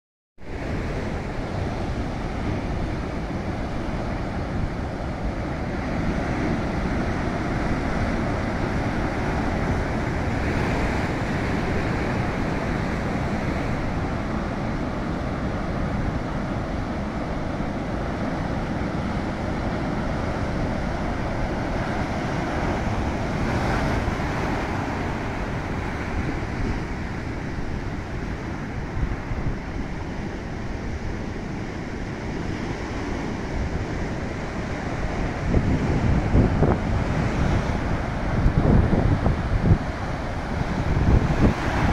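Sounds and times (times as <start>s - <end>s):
deep rumble of waves: 0.4s - 41.9s
surf breaking over rocks: 0.5s - 41.9s.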